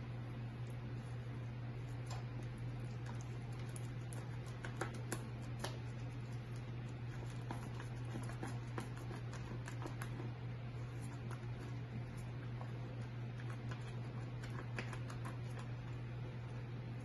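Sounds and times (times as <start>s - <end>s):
steady low hum: 0.0s - 17.0s
sticky batter squelching: 0.2s - 17.0s.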